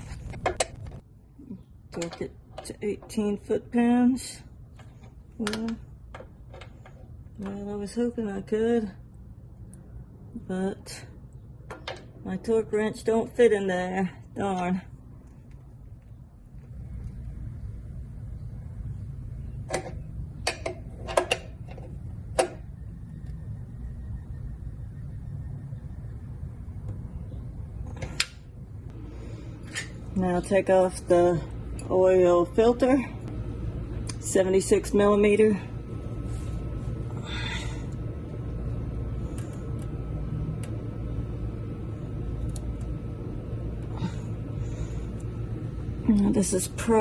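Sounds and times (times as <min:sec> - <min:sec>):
low background hum: 0:00.0 - 0:47.0
steady low rumble: 0:00.0 - 0:47.0.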